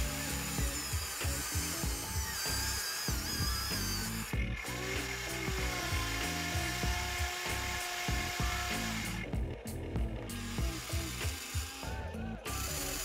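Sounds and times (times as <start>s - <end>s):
background music: 0.0s - 13.0s
small electric motor whirring: 0.0s - 13.0s.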